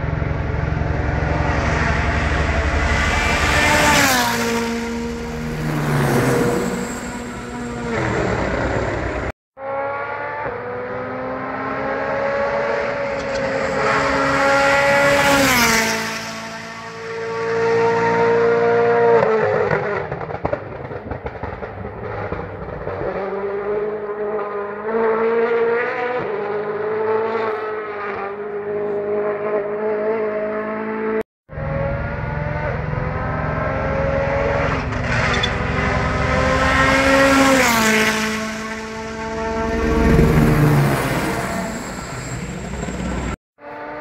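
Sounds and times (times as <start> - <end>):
rally car engine at full throttle: 0.0 - 44.0.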